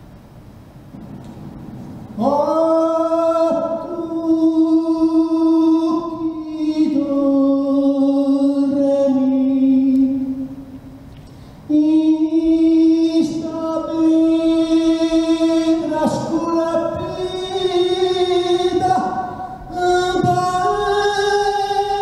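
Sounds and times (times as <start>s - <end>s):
person singing unaccompanied: 2.2s - 10.5s, 11.7s - 22.0s.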